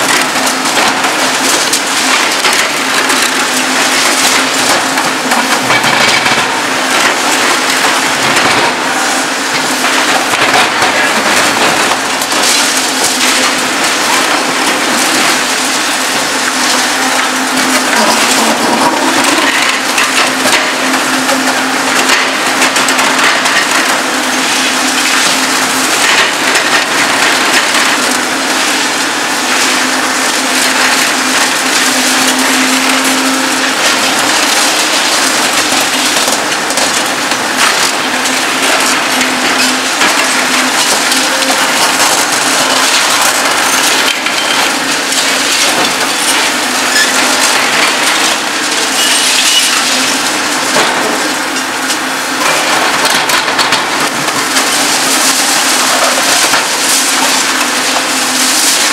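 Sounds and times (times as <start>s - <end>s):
concrete cracking and crunching: 0.0s - 58.9s
machine humming: 0.0s - 58.9s.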